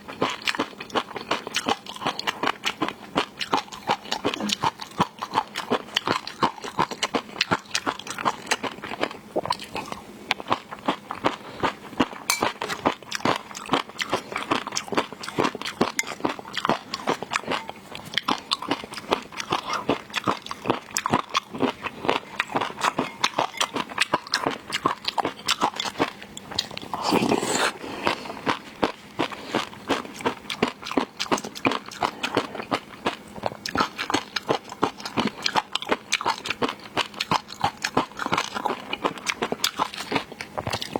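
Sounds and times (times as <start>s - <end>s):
chewing and crunching seafood: 0.0s - 40.9s.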